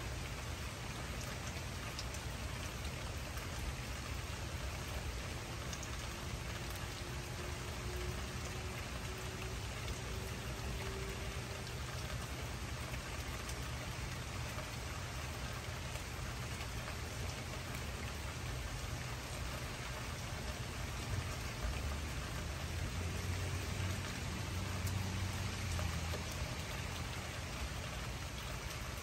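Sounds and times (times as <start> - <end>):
steady rain falling: 0.0 - 29.0
sharp raindrop ticks: 0.5 - 29.0.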